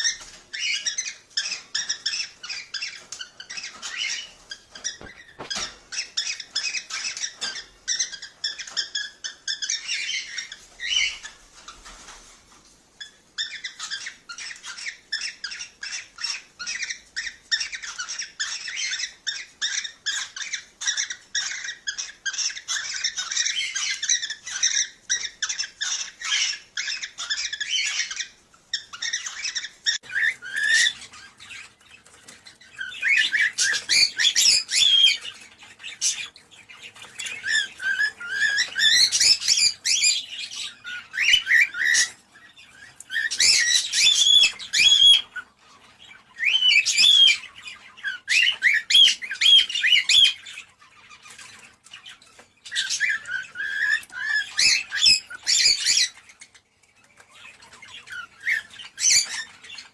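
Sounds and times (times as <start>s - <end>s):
cockatiels chirping and warbling: 0.0s - 59.9s.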